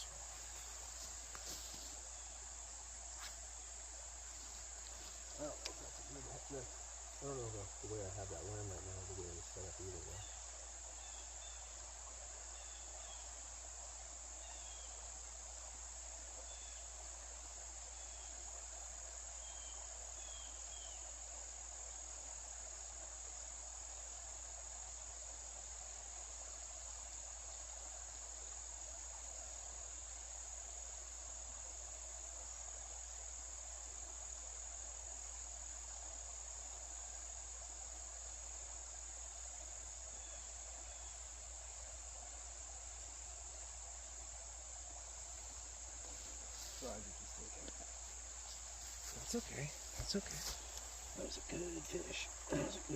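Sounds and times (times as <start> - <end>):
high-pitched insect chorus: 0.0 - 52.9
soft creek water wash: 0.0 - 52.9.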